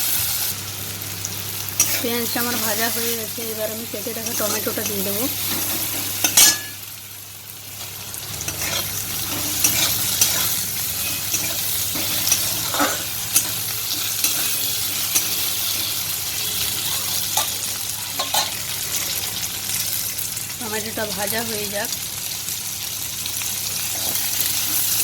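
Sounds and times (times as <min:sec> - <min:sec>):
tomato and onions sizzling in oil: 0:00.0 - 0:25.0.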